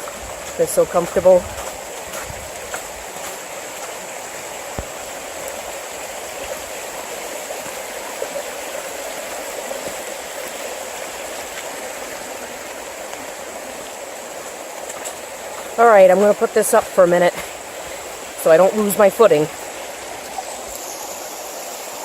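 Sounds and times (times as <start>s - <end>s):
meltwater rushing: 0.0s - 22.0s.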